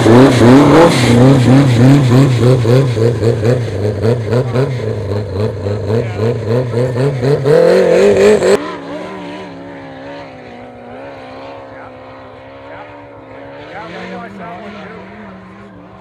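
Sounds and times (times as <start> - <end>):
distant engine drone: 0.0 - 16.0
snowmobile engine revving: 0.0 - 16.0.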